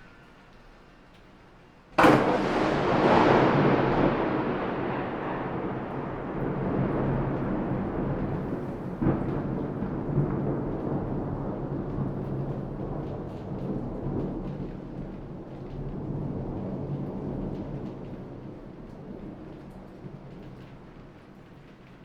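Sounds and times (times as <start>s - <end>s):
thunder rumbling: 2.0s - 21.8s.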